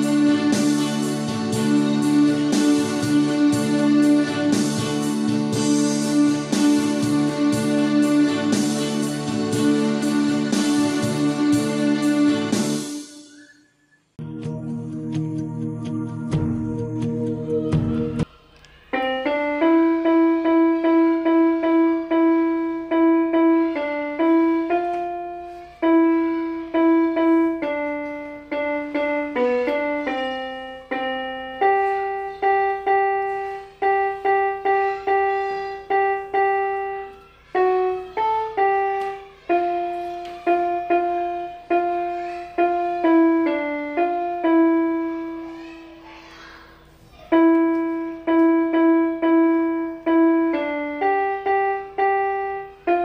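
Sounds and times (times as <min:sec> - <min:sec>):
electronic keyboard melody: 0:00.0 - 0:46.2, 0:46.8 - 0:53.0.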